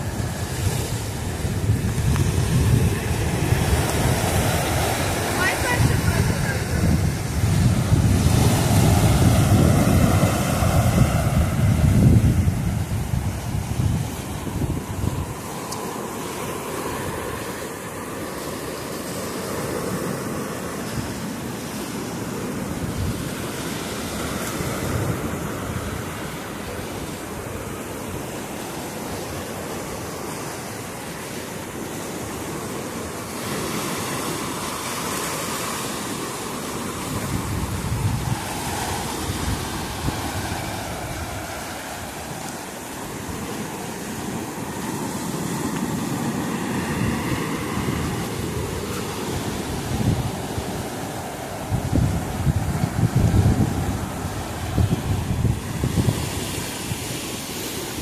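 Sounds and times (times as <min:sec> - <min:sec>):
surf breaking on shore: 0:00.0 - 0:58.0
wind on microphone: 0:00.0 - 0:58.0.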